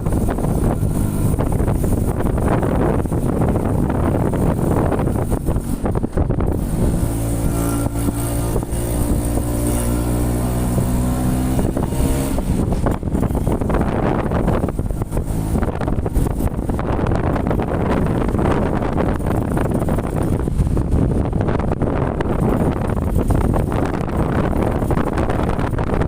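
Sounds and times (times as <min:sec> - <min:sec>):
motorcycle engine drone: 0:00.0 - 0:26.0
wind buffeting microphone: 0:00.0 - 0:26.0.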